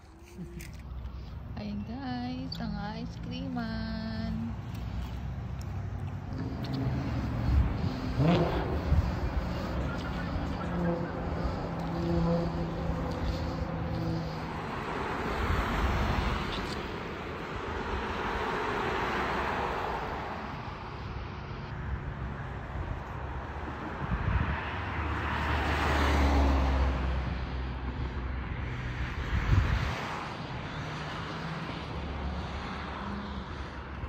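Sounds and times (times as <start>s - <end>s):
vehicles passing on road: 0.0s - 34.0s.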